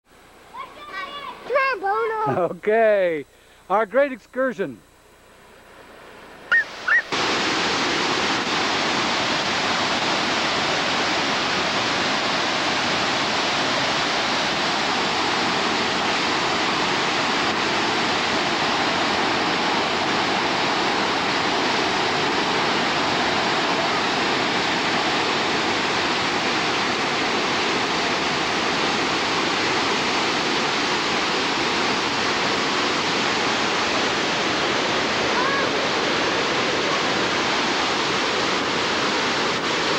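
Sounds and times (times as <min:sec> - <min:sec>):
waterfall rushing: 0:06.5 - 0:39.9.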